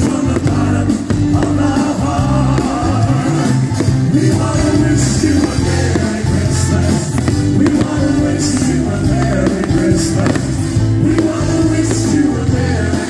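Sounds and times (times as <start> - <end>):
group singing: 0.0 - 13.0
live band music: 0.0 - 13.0.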